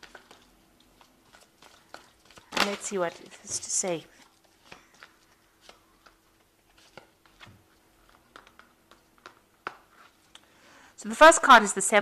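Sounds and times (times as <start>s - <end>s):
tarot cards being handled: 0.0s - 10.6s.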